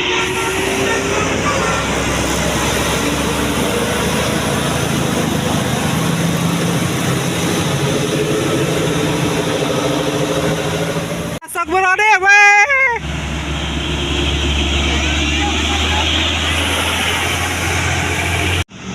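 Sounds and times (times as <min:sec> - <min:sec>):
diesel bus engine running: 0:00.0 - 0:18.9
street traffic noise: 0:00.0 - 0:18.9.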